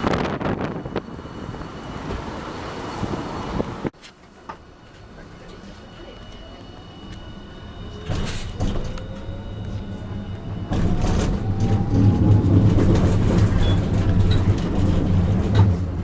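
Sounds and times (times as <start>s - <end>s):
tram motor whine: 0.0s - 16.0s
tram running noise: 0.0s - 16.0s.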